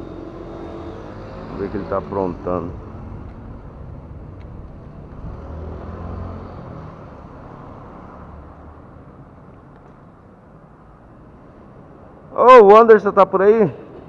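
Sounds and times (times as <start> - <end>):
motor vehicle engine rumble: 0.0 - 12.2.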